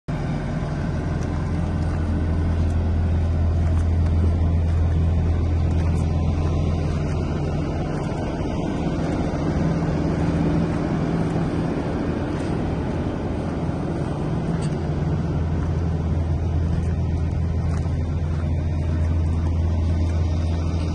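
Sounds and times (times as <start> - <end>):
diesel engine idling: 0.1 - 20.9.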